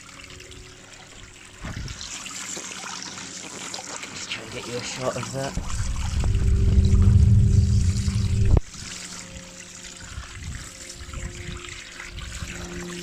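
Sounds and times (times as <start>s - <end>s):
water trickling and draining: 0.0s - 13.0s.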